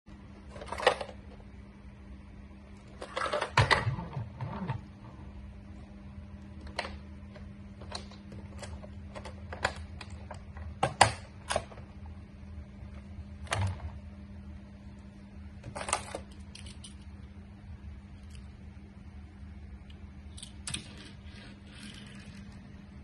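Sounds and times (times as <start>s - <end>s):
steady low hum: 0.1s - 23.0s.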